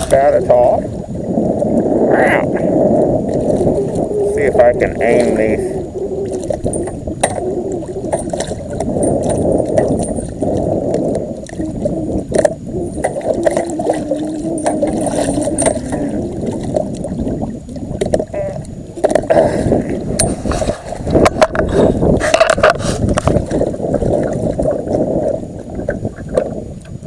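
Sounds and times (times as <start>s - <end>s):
steady low rumble: 0.0s - 27.0s
water splashing against boat: 0.0s - 27.0s.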